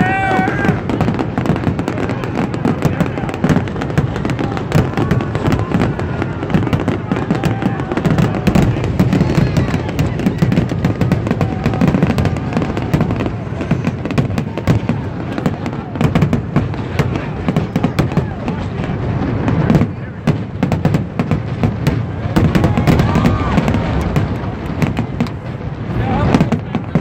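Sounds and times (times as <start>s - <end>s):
fireworks bursts and crackling: 0.0s - 27.0s.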